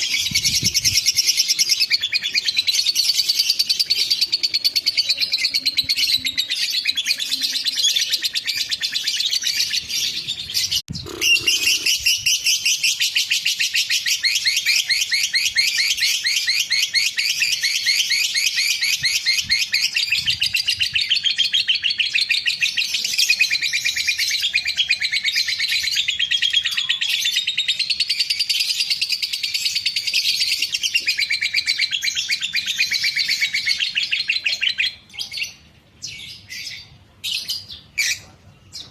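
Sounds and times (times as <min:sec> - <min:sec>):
lovebird shrill chirping song: 0:00.0 - 0:38.2.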